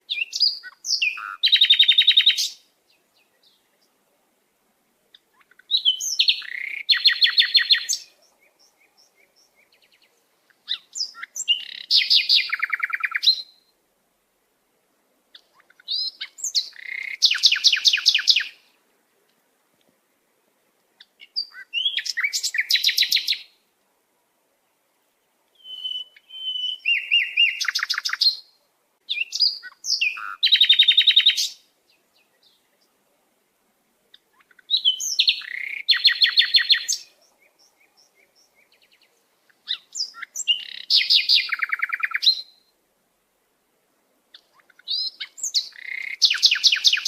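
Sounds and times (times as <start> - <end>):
songbird chirps and trills: 0.0 - 47.0.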